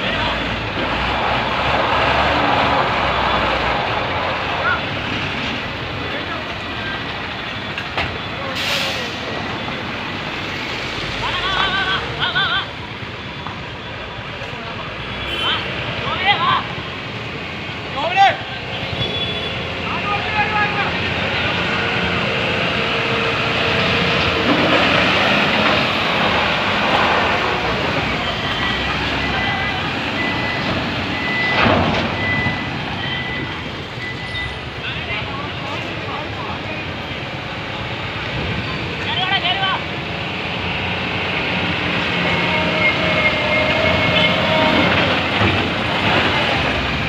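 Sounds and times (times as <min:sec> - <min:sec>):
truck diesel engine passing: 0:00.0 - 0:47.0.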